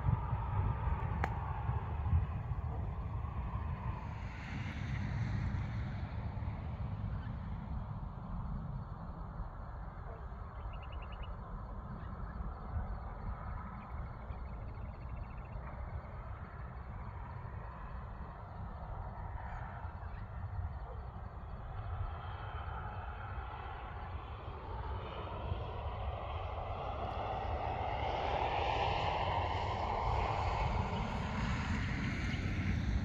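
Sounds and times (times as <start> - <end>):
wind buffeting microphone: 0.0 - 9.9, 11.2 - 33.0
distant engine drone: 0.0 - 33.0.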